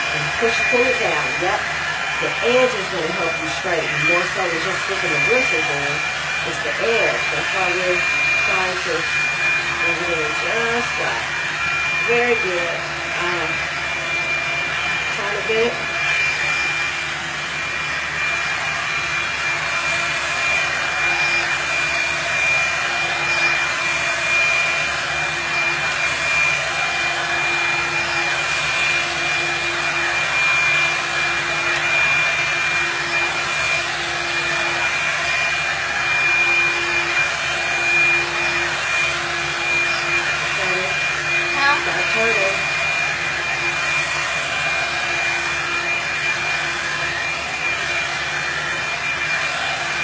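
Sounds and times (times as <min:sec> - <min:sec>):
blow dryer brush running: 0:00.0 - 0:50.0
motor whine: 0:00.0 - 0:50.0.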